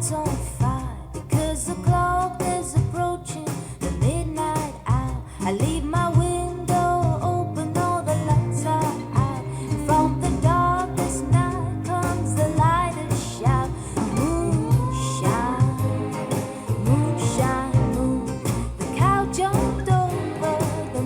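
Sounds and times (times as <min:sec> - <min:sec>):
bass: 0:00.0 - 0:21.0
guitar: 0:00.0 - 0:21.0
woman singing: 0:00.0 - 0:21.0.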